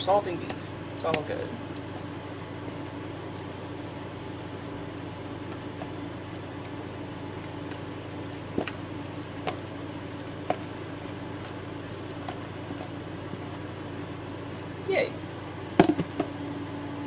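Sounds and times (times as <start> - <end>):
induction cooktop humming: 0.0 - 17.0.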